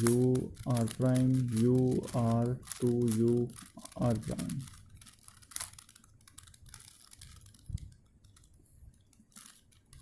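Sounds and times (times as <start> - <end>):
puzzle cube plastic clicks: 0.0 - 10.0.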